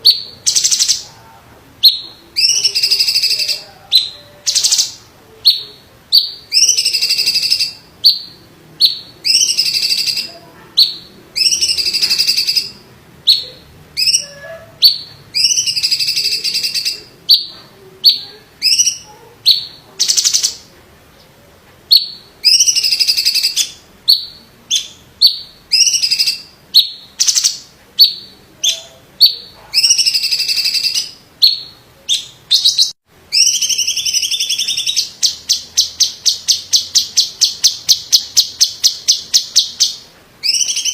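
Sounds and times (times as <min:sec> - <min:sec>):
bird singing loudly: 0:00.0 - 0:01.1, 0:01.8 - 0:20.7, 0:21.9 - 0:40.9.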